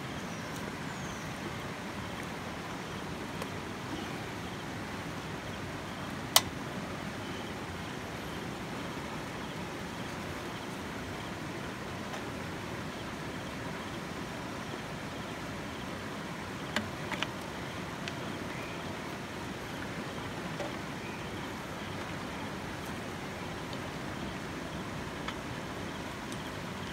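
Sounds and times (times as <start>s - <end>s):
creek water running: 0.0s - 26.9s.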